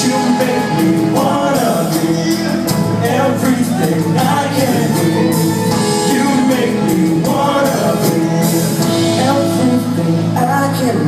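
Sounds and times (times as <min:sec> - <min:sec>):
live band music: 0:00.0 - 0:11.0
person singing: 0:00.0 - 0:11.0.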